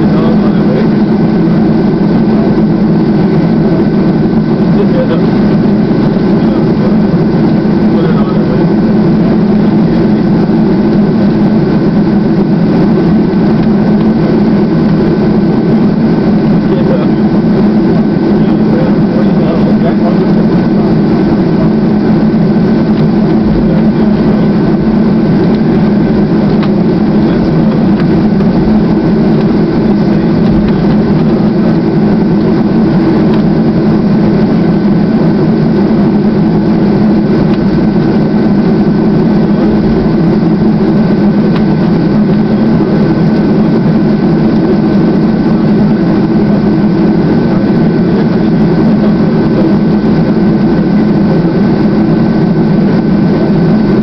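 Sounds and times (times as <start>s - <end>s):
jet engines low rumble with whine: 0.0s - 54.0s.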